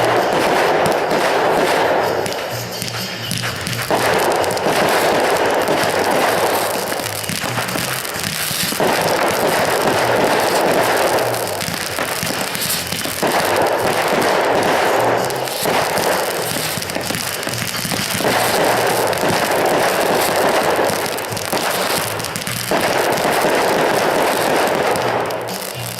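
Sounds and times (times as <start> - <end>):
fireworks crackling: 0.0 - 25.9
music playing: 0.0 - 25.9.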